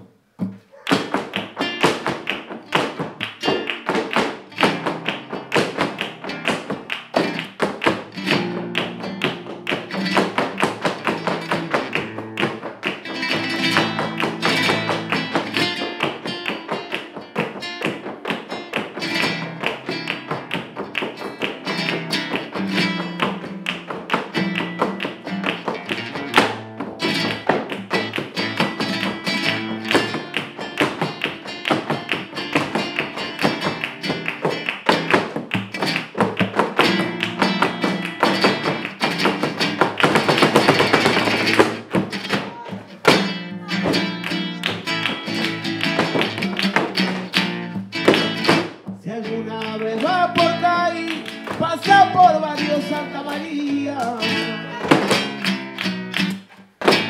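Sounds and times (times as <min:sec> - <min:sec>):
flamenco guitar: 0:00.0 - 0:57.0
dancers' footwork on wooden floor: 0:00.4 - 0:49.0, 0:49.8 - 0:57.0
hand-clapping: 0:00.7 - 0:57.0.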